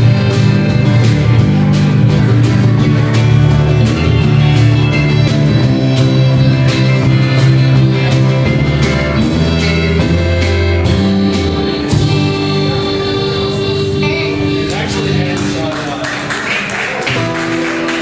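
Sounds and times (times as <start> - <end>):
country band playing: 0.0 - 18.0.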